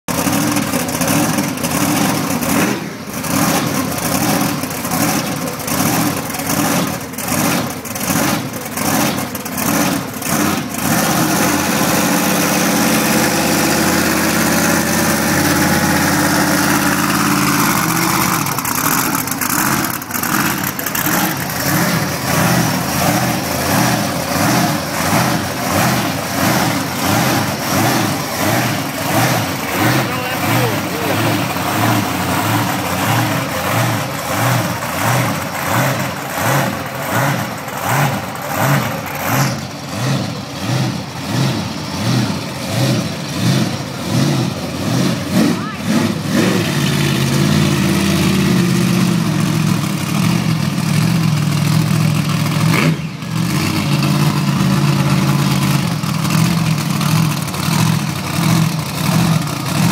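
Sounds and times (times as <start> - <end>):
truck engine pulsing idle and revving: 0.0 - 59.9.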